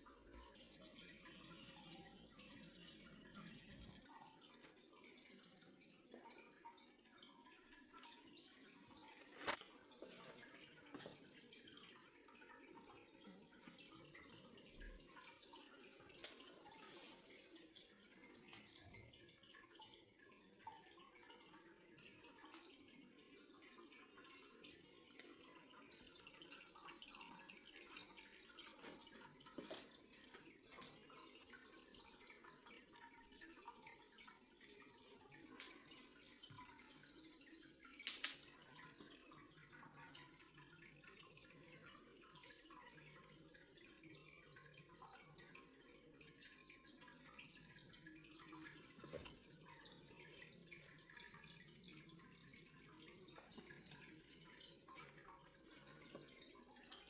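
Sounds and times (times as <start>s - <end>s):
water dripping and trickling: 0.0s - 57.0s.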